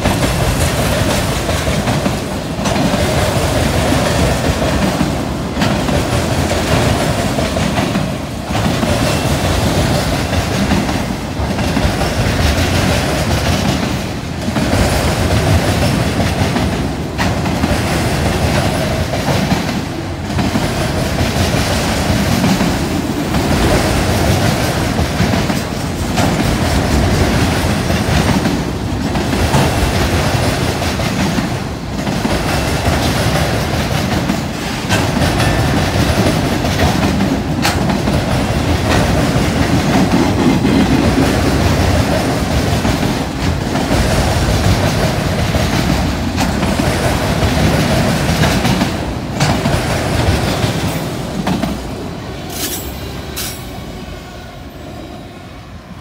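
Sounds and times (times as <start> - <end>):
freight train wheels clanking: 0.0 - 54.0.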